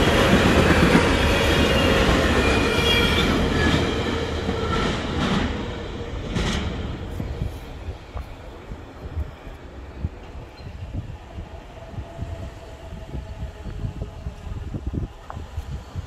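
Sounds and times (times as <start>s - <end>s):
freight train rolling over rails: 0.0s - 16.0s.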